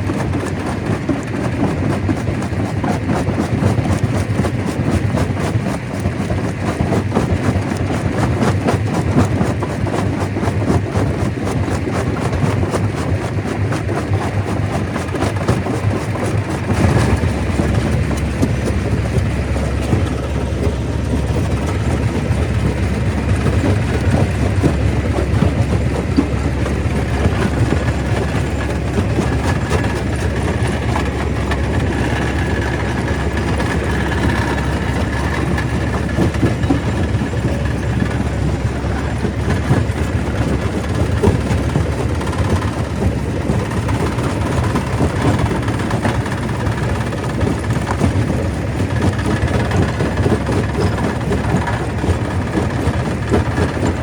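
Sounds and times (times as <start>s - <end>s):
stone crusher rumbling: 5.2s - 54.0s.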